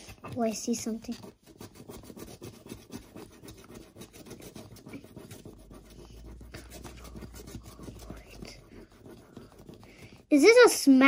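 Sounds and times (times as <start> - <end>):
finger scratching paper: 0.0 - 10.6.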